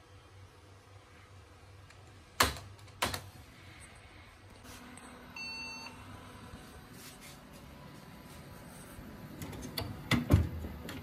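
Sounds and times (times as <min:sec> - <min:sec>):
low hum of case fans: 0:00.0 - 0:11.0.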